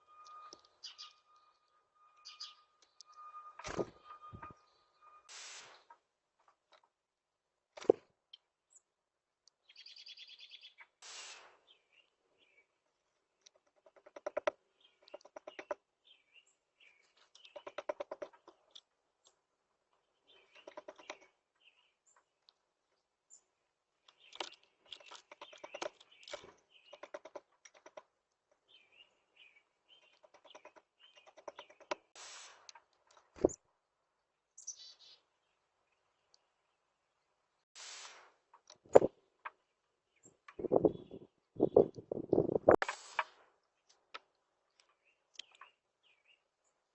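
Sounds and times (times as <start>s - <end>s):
small birds chirping: 0.0s - 5.9s, 7.8s - 37.7s, 38.7s - 46.9s.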